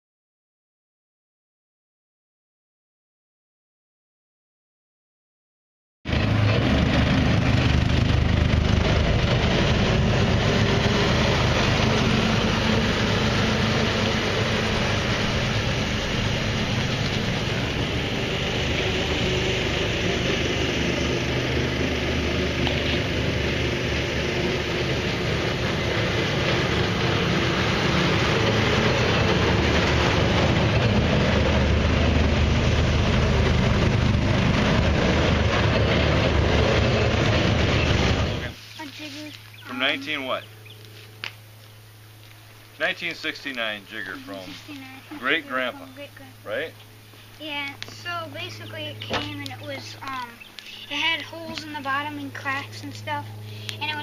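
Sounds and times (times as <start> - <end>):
atv engine running: 6.1 - 54.0.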